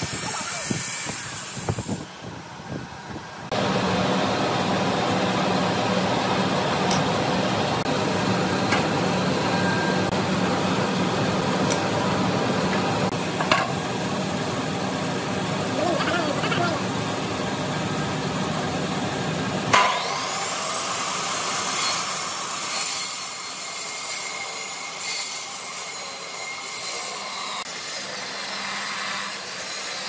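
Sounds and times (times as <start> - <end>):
workshop machinery droning: 0.0 - 30.0.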